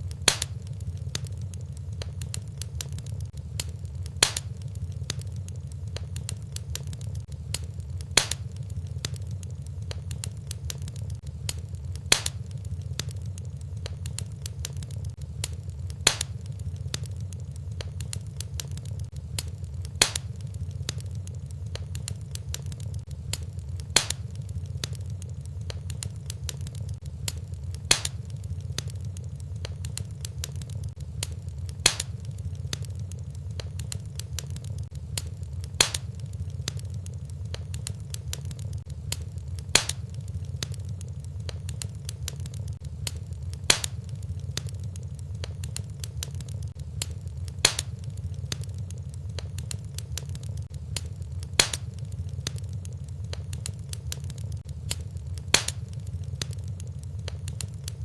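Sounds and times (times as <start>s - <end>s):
sharp fire pops: 0.0s - 58.0s
wood fire crackling: 0.0s - 58.0s.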